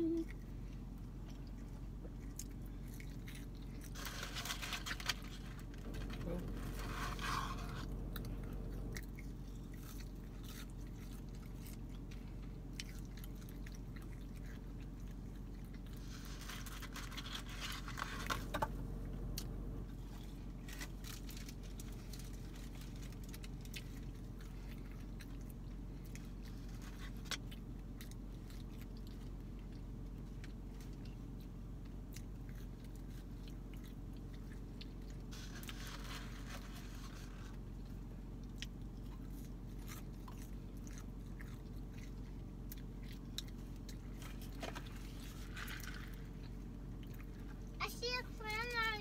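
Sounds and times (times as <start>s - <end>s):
chewing and crunching fries: 0.0s - 49.0s
steady low hum: 0.0s - 49.0s.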